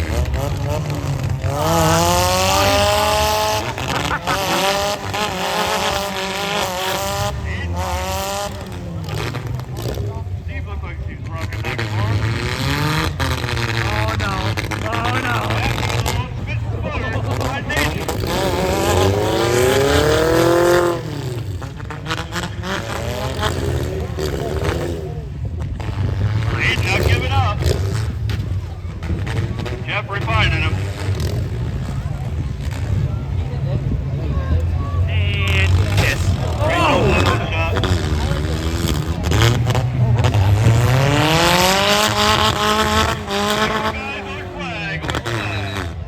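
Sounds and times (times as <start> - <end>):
car engines revving hard: 0.0 - 46.0.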